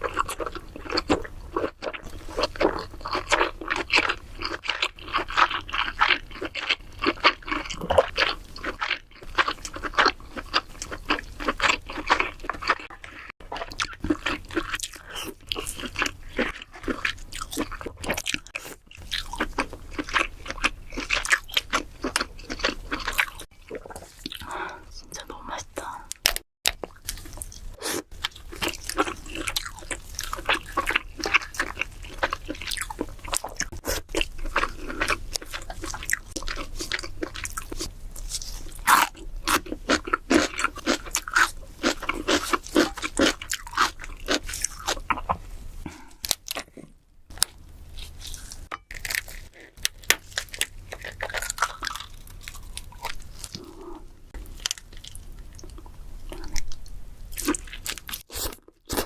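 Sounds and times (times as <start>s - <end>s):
crab shell crunching while chewing: 0.0s - 24.6s, 26.1s - 59.0s.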